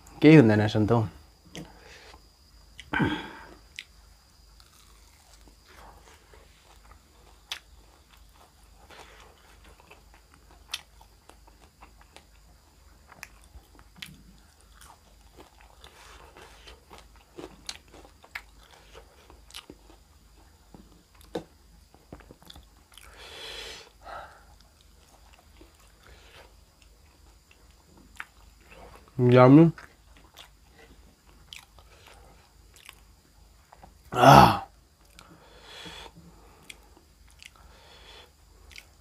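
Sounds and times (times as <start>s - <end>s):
person chewing and crunching food: 1.5s - 23.3s, 24.4s - 29.2s, 29.8s - 39.0s.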